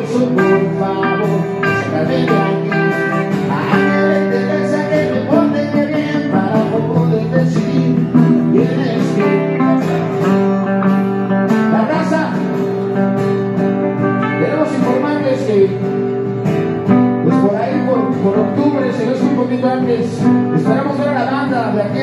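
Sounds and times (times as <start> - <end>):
person singing: 0.0 - 16.3, 17.1 - 22.0
acoustic guitar chords: 0.0 - 22.0.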